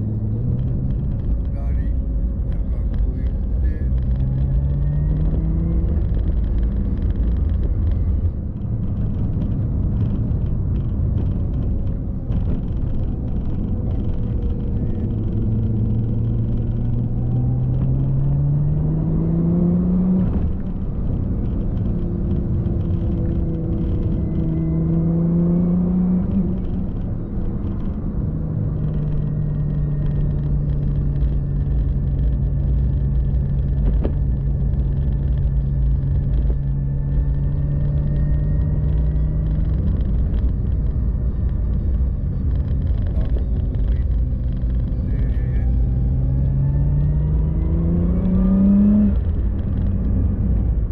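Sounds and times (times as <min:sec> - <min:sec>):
car engine accelerating: 0:00.0 - 0:50.9
road rumble: 0:00.0 - 0:50.9.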